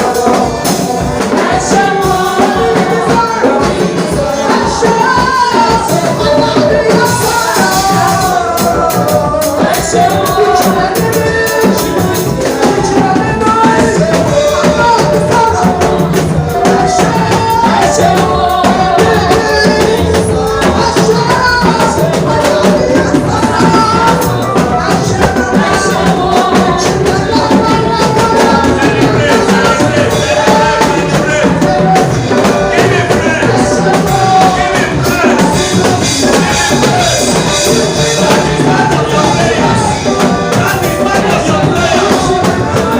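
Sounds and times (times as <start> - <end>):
people singing: 0.0 - 42.9
worship band playing: 0.0 - 42.9.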